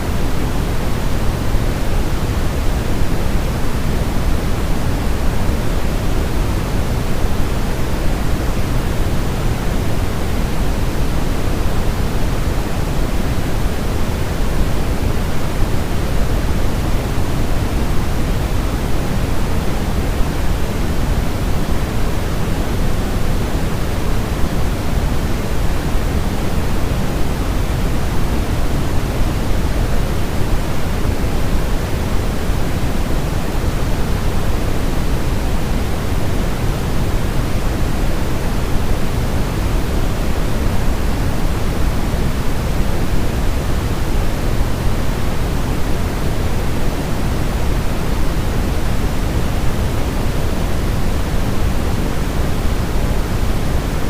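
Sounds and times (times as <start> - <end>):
low white noise: 0.0 - 54.0.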